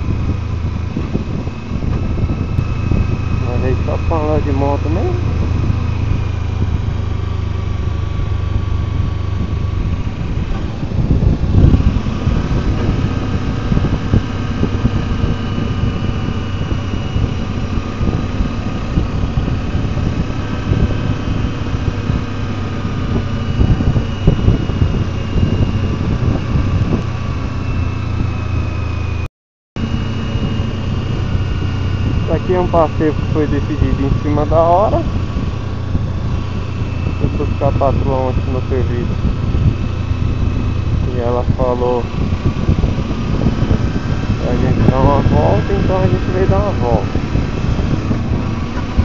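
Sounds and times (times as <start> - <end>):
motorcycle engine running: 0.0 - 49.0
wind noise on microphone: 0.0 - 49.0.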